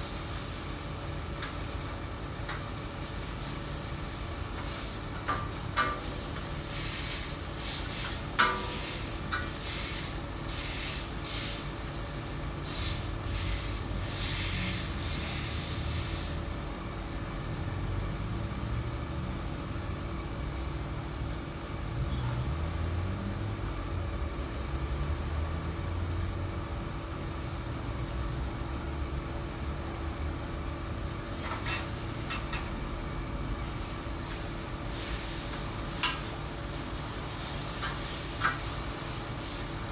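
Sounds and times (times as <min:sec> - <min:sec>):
meat sizzling on a griddle: 0:00.0 - 0:22.0, 0:24.0 - 0:39.9.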